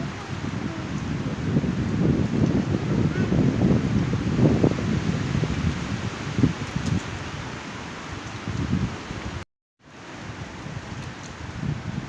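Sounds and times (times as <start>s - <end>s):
wind buffeting microphone: 0.0s - 9.4s, 10.0s - 12.0s
leaves rustling: 0.0s - 12.0s.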